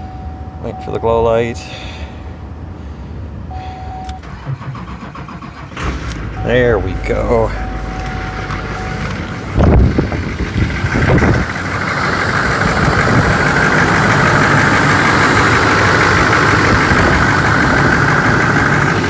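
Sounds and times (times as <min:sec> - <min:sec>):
diesel engine starting and idling: 0:00.0 - 0:19.0.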